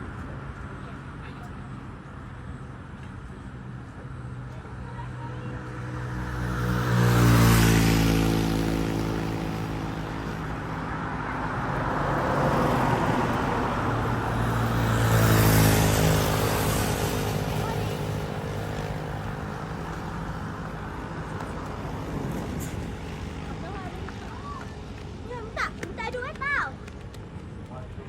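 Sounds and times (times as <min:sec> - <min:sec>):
road vehicles passing by: 0:00.0 - 0:28.0.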